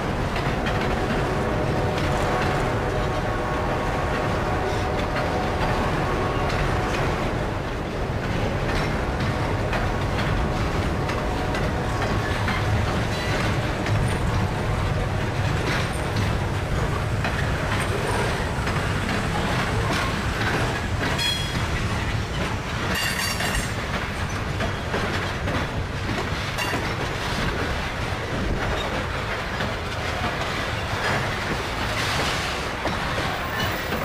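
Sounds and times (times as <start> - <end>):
train wheels clacking over rail joints: 0.0 - 34.0.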